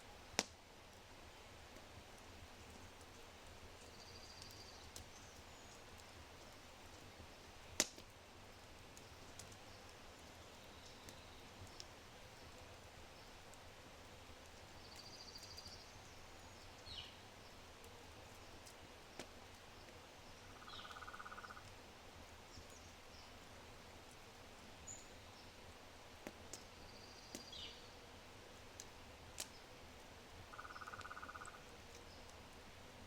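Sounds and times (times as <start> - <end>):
fire crackling faintly: 0.0 - 33.0
fire popping: 0.2 - 20.0, 21.6 - 27.8, 28.4 - 32.8.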